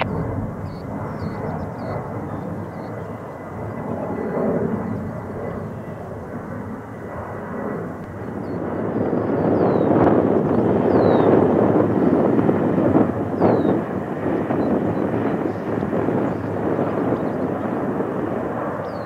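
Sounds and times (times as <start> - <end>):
jet engines during takeoff: 0.0 - 19.0.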